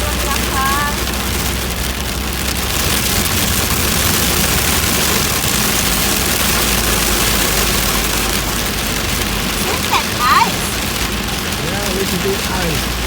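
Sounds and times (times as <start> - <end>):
car engine and road hum: 0.0 - 13.0
rain and hail drumming on car roof: 0.0 - 13.0.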